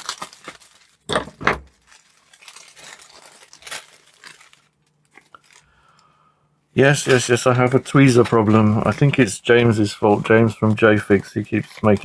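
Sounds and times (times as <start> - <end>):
plastic bag crinkling: 0.0 - 6.1, 6.8 - 12.0.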